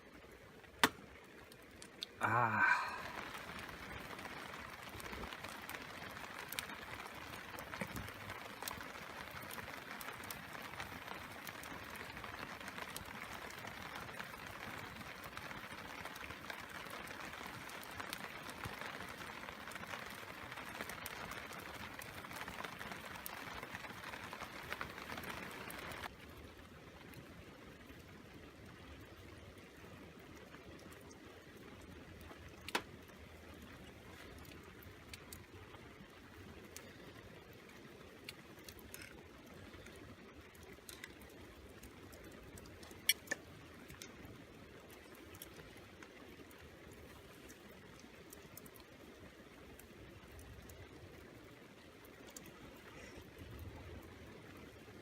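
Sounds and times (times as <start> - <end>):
rain on a plastic tarp: 0.0 - 55.0.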